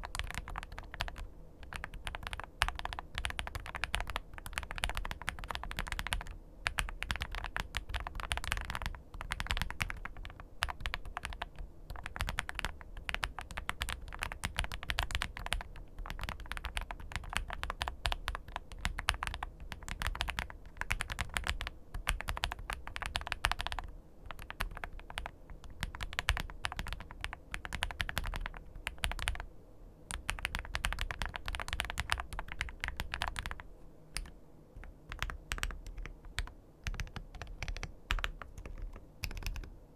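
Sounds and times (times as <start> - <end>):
mechanical keyboard typing: 0.0 - 29.5, 30.1 - 39.7.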